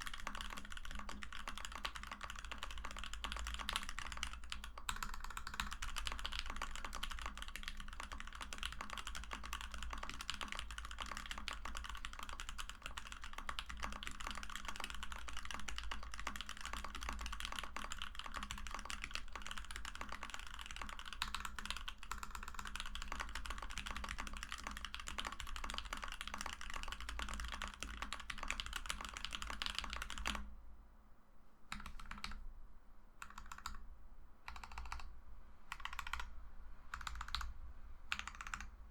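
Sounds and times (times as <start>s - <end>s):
fast typing on mechanical keyboard: 0.0s - 30.5s, 31.7s - 32.4s, 33.2s - 33.8s, 34.5s - 35.1s, 35.7s - 36.3s, 36.9s - 37.5s, 38.1s - 38.7s.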